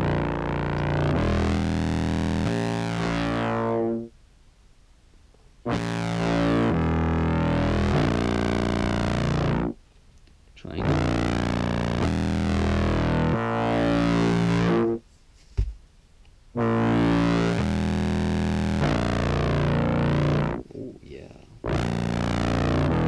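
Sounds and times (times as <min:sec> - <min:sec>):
distorted low clarinet notes: 0:00.0 - 0:04.2, 0:05.7 - 0:09.8, 0:10.6 - 0:15.0, 0:16.6 - 0:23.0.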